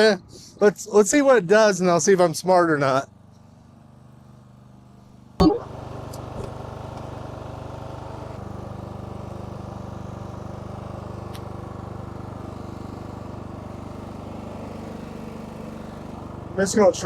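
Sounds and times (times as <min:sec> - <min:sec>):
lawn mower engine idling: 0:00.8 - 0:17.0.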